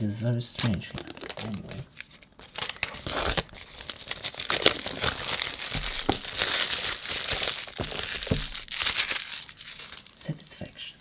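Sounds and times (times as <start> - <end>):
plastic wrap crinkling: 0.2 - 10.2.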